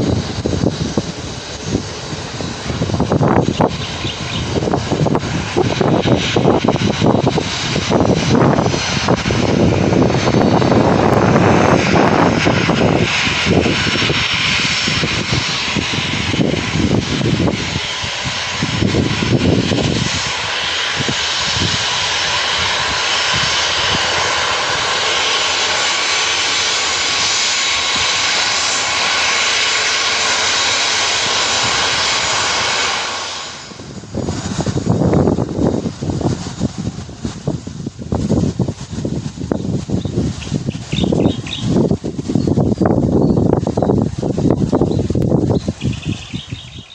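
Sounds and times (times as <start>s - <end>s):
jet engine whine: 0.0s - 46.9s
wind buffeting microphone: 0.0s - 46.9s.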